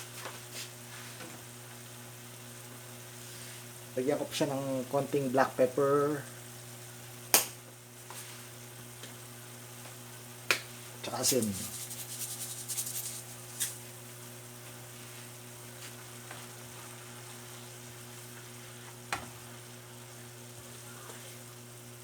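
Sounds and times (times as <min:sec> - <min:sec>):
sauce sizzling in a pan: 0:00.0 - 0:22.0.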